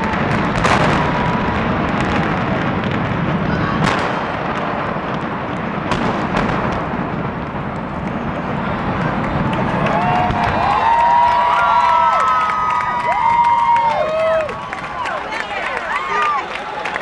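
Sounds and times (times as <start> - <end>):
sharp cracks of explosive charges: 0.0 - 13.8.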